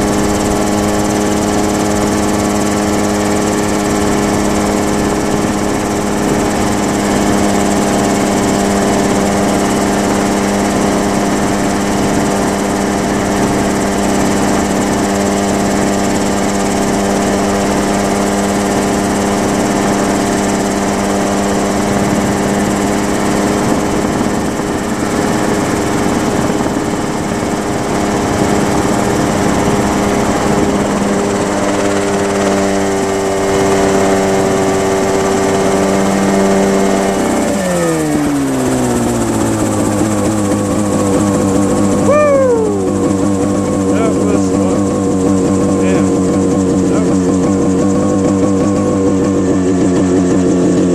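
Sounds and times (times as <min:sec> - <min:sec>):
helicopter engine drone: 0:00.0 - 0:50.9.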